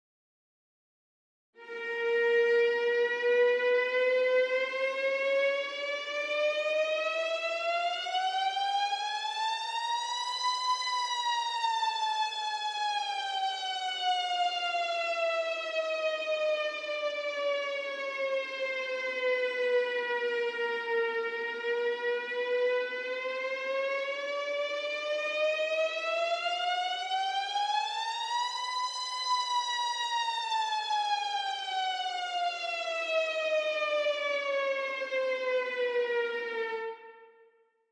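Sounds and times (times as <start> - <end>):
siren wailing: 1.6 - 37.4.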